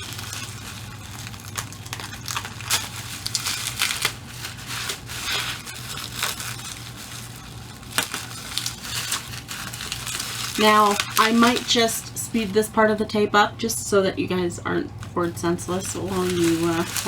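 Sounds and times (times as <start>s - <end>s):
packaging crinkling: 0.0s - 12.8s, 15.0s - 17.0s
steady low hum: 0.0s - 17.0s.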